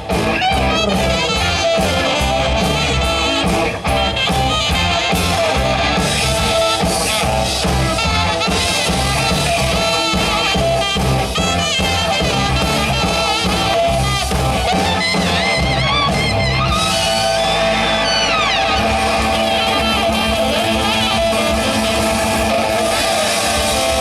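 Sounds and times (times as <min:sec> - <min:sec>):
bending lead guitar line: 0:00.0 - 0:24.0
rock band playing instrumental: 0:00.0 - 0:24.0.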